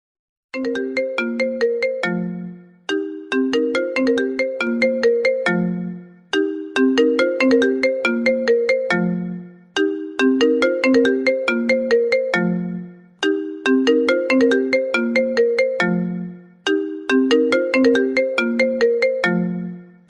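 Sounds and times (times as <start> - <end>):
phone ringtone melody: 0.6 - 20.0.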